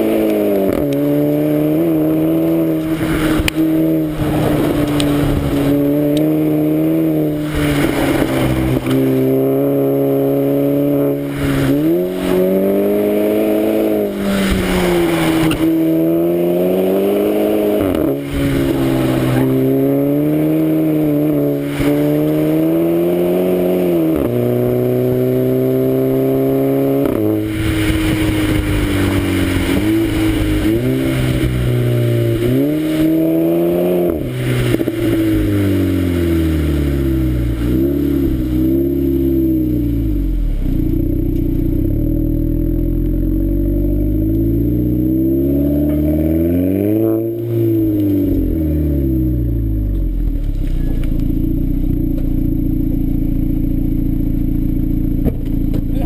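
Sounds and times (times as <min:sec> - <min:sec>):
car engine idling: 0:00.0 - 0:22.5, 0:27.0 - 0:46.4, 0:47.2 - 0:56.0
car exhaust revving: 0:00.0 - 0:56.0.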